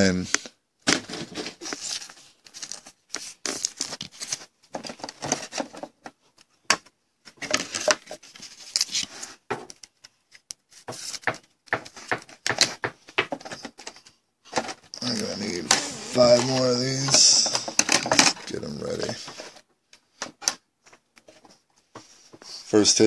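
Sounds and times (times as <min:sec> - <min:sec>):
card holders rustling and scraping: 0:00.9 - 0:22.6.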